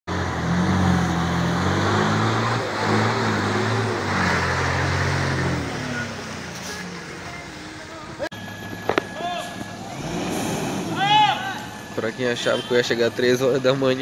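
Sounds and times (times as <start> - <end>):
bus engine running under load: 0.1 - 14.0.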